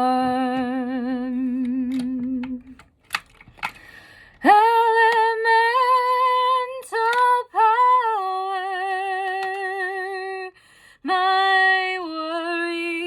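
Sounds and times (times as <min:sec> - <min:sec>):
woman singing unaccompanied: 0:00.0 - 0:02.8, 0:04.4 - 0:13.0.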